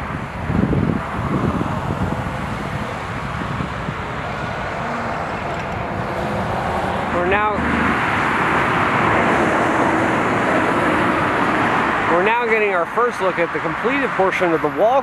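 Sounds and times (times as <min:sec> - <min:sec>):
road traffic rushing: 0:00.0 - 0:15.0
wind buffeting microphone: 0:00.0 - 0:15.0.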